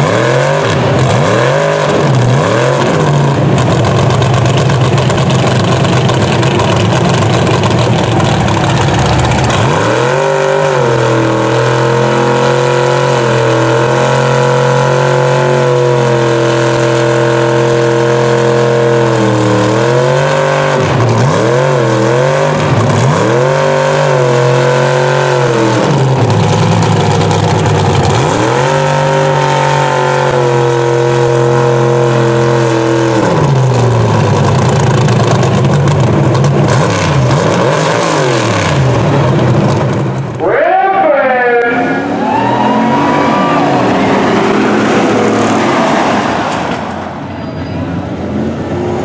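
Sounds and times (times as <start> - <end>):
truck engines revving: 0.0 - 49.0.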